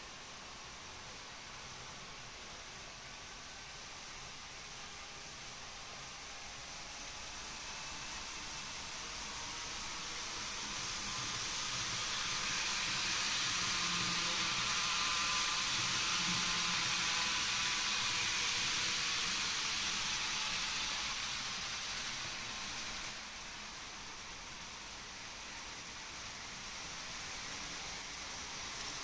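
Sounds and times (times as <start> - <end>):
model train whirring past: 0.0 - 29.0.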